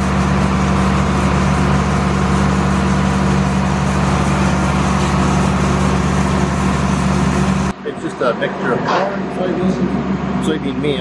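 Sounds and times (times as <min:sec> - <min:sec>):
deep hum: 0:00.0 - 0:11.0
tractor machine drone: 0:00.0 - 0:11.0.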